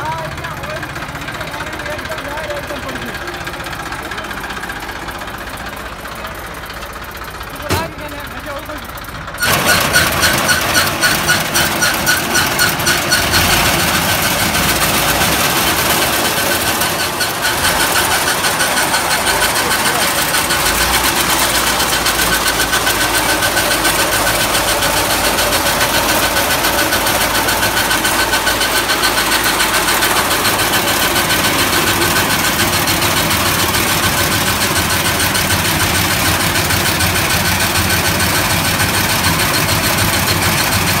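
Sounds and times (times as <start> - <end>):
diesel tractor engine clattering: 0.0 - 41.0.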